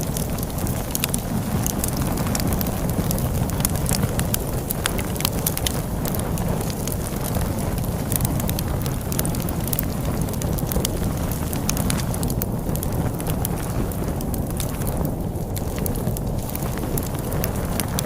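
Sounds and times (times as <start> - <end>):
storm wind rushing: 0.0 - 18.0
wood fire crackling and popping: 0.0 - 18.0.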